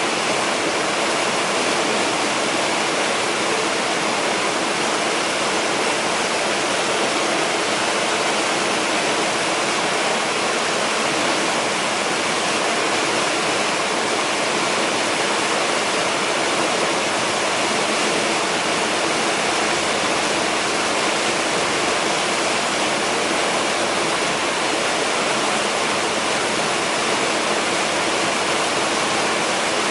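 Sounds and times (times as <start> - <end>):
creek water running over rocks: 0.0 - 29.9.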